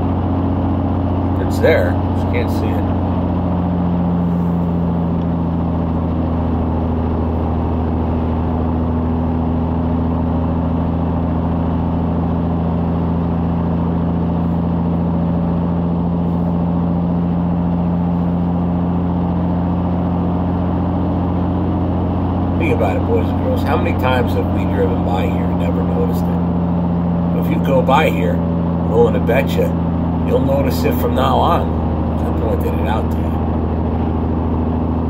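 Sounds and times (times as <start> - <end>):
diesel truck engine droning: 0.0 - 35.0.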